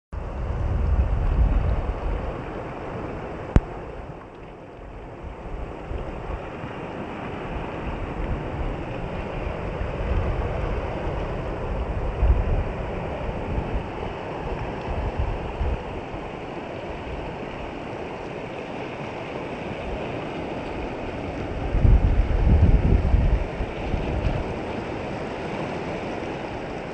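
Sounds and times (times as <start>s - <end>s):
shallow water rippling: 0.2s - 26.9s
wind buffeting microphone: 0.2s - 26.9s.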